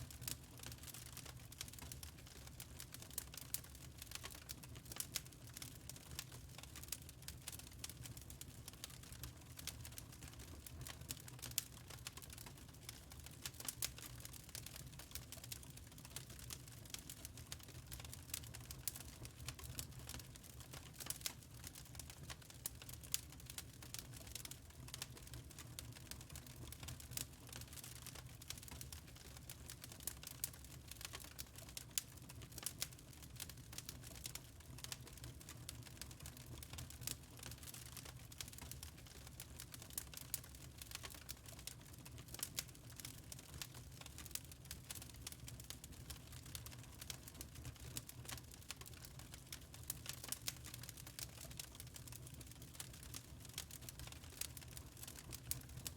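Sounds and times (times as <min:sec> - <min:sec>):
low steady fire rumble: 0:00.0 - 0:55.9
wood fire crackling: 0:00.1 - 0:55.9.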